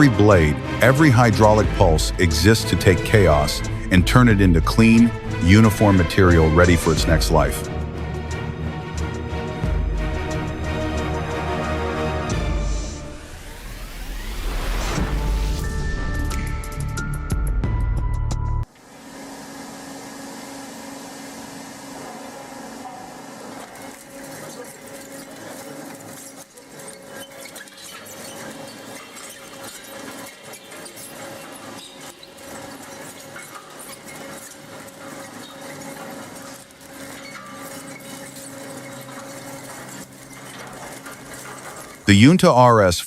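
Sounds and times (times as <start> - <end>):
shredder motor hum: 0.0 - 17.1, 18.6 - 42.1.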